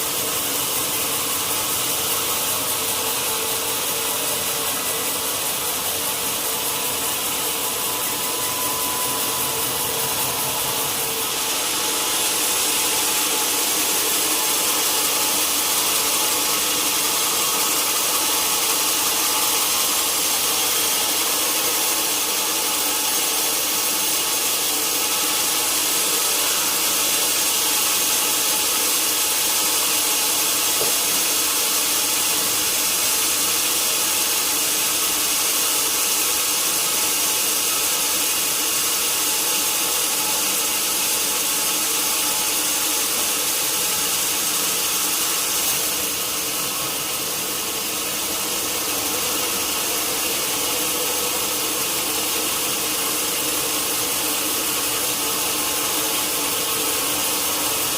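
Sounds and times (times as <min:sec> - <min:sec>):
sawmill saw cutting log: 0:00.0 - 0:57.9.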